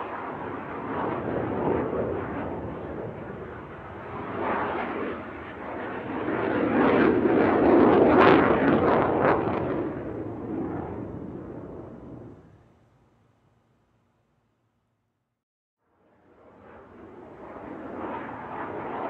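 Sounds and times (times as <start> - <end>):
jet aircraft engine roar: 0.0 - 13.2, 15.9 - 19.0.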